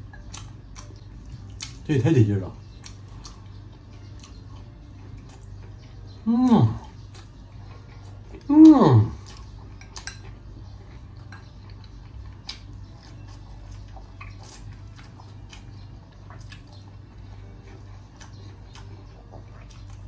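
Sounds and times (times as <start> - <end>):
person chewing food: 0.0 - 1.8, 2.5 - 20.0
steady low hum: 0.0 - 20.0.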